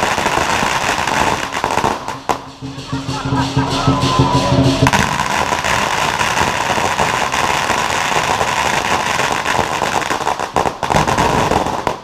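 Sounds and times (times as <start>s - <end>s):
firecrackers crackling: 0.0s - 12.0s.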